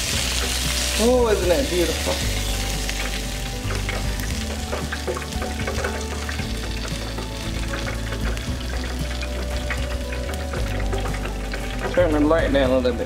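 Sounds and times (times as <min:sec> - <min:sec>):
hot oil crackling and sizzling: 0:00.0 - 0:13.0.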